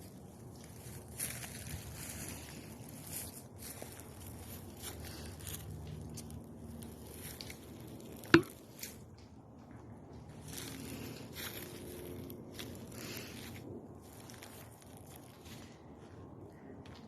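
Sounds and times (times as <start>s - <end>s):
footsteps crunching through dry leaves: 0.0s - 16.3s.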